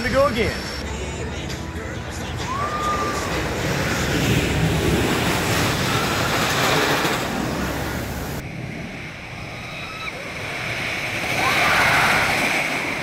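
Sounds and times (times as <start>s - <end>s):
roller coaster rushing on track: 0.0s - 13.0s.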